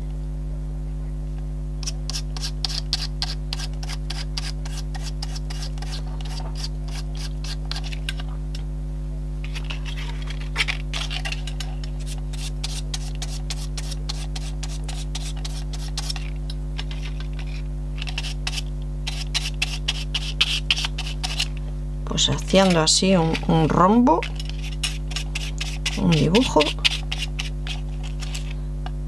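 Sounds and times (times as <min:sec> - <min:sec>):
low electrical hum: 0:00.0 - 0:29.0
brush scratching on paper: 0:01.8 - 0:08.2, 0:09.4 - 0:21.6, 0:22.3 - 0:28.6.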